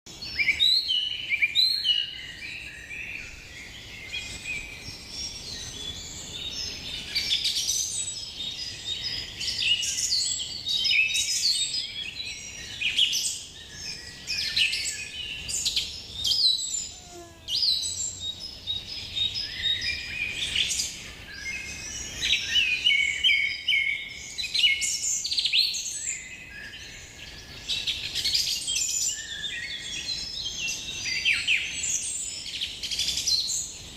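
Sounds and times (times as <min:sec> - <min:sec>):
chorus of birds chirping: 0:00.1 - 0:33.9.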